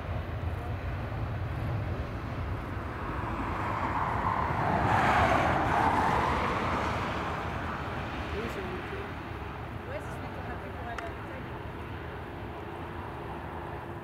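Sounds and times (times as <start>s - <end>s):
jet engines passing by: 0.0s - 14.0s.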